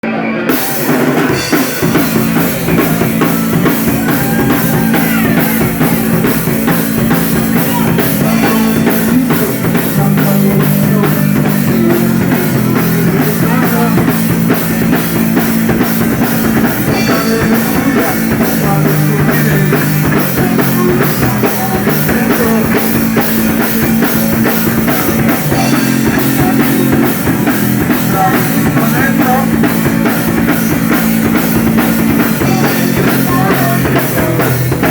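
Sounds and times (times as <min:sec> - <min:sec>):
rock band playing: 0:00.0 - 0:34.9
drum kit beat: 0:00.5 - 0:34.9.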